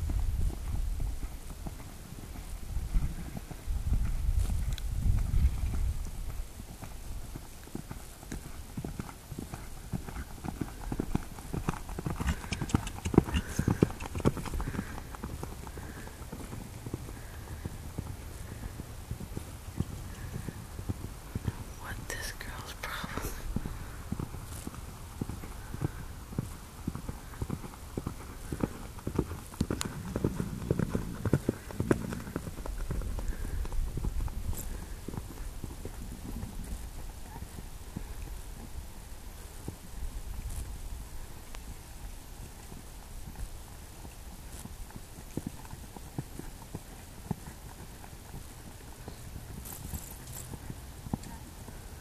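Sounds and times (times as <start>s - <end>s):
horse hooves cantering on sand: 0.0s - 21.7s, 23.1s - 52.0s.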